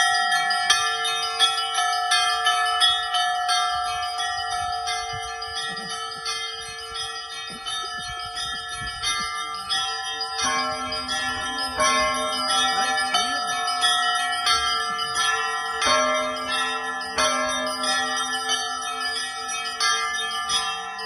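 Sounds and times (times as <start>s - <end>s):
large bells ringing: 0.0s - 21.0s
small bells struck quickly: 0.0s - 21.0s.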